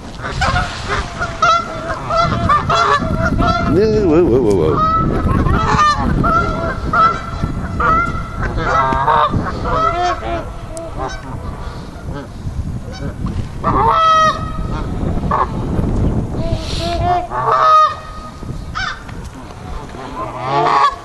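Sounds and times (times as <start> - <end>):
geese honking: 0.0 - 15.7, 16.4 - 21.0.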